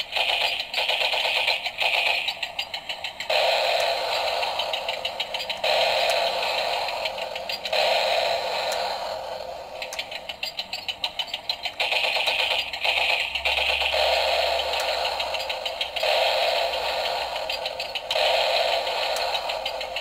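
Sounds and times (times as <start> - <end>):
toy tank engine sound effects: 0.0 - 20.0.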